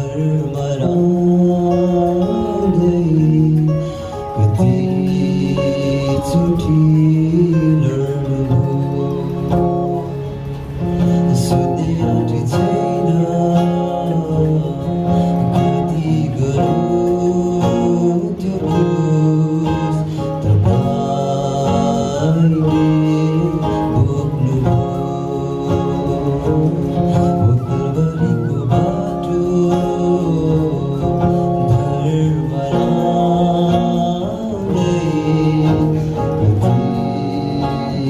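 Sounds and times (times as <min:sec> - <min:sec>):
acoustic guitar strumming: 0:00.0 - 0:38.0
person singing a hymn: 0:00.0 - 0:38.0.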